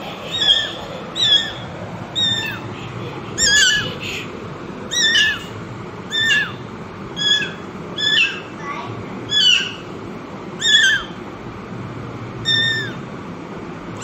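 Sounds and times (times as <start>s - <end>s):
kittens squeaking and mewing: 0.0s - 8.6s, 9.2s - 11.2s, 12.4s - 13.1s.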